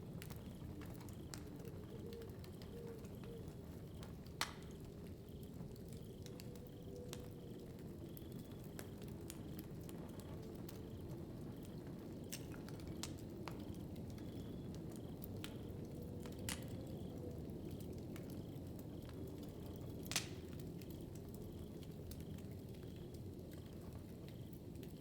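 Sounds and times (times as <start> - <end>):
fire crackling and popping: 0.0 - 25.0
fire flames rumbling: 0.0 - 25.0.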